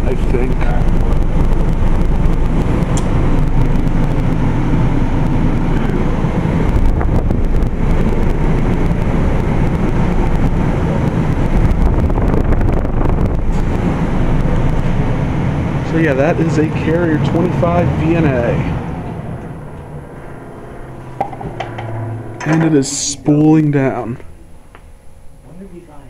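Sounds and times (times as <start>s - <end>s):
heat pump low mechanical rumble: 0.0s - 26.0s.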